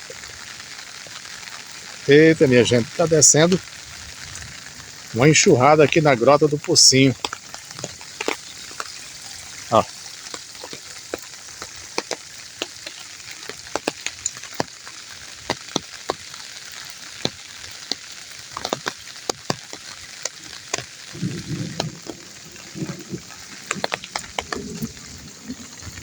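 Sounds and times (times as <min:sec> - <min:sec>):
runoff water rushing: 0:00.0 - 0:26.0.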